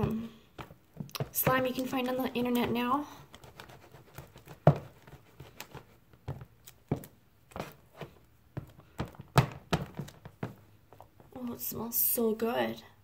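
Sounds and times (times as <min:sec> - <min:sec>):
spatula knocking plastic tub: 0:00.0 - 0:10.8
spatula stirring sticky mix: 0:00.0 - 0:11.4.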